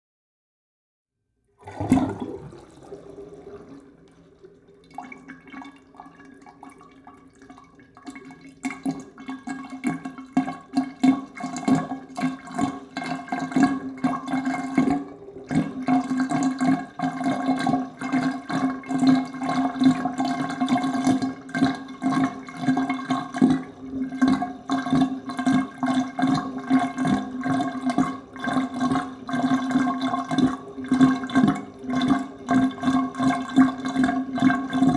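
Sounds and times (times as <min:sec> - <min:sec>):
bathtub water draining gurgling: 0:01.5 - 0:34.9.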